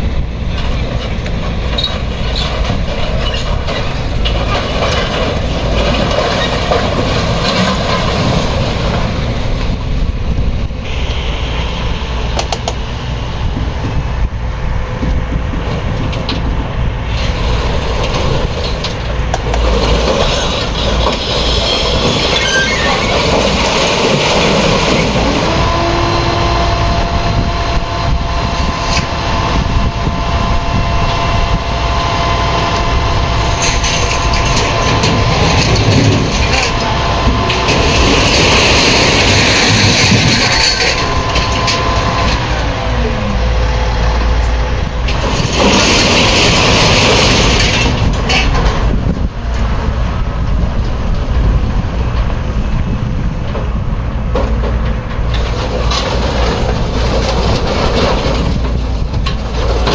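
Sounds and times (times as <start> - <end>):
excavator diesel engine running: 0.0 - 59.9
steady whine: 0.0 - 59.9
metal clanking and scraping: 0.5 - 9.9, 15.1 - 59.9.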